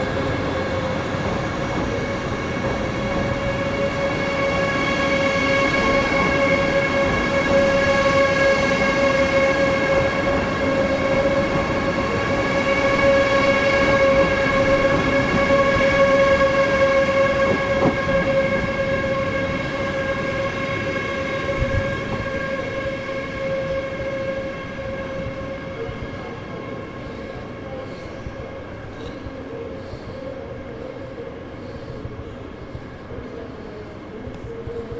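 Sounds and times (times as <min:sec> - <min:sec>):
train high whine: 0:00.0 - 0:34.9.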